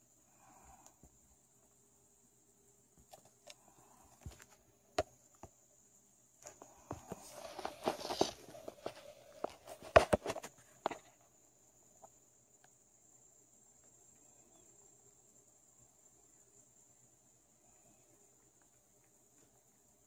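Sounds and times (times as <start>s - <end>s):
faint high hiss: 0.0s - 20.0s.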